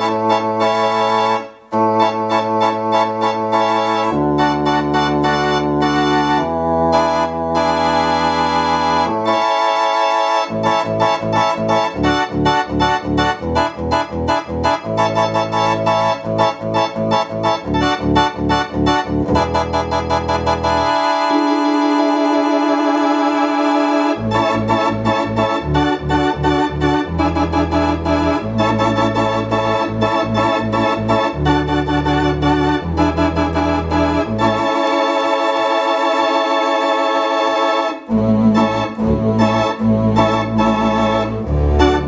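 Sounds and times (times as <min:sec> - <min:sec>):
electronic organ playing chords: 0:00.0 - 0:42.0
organ bass notes: 0:00.0 - 0:42.0.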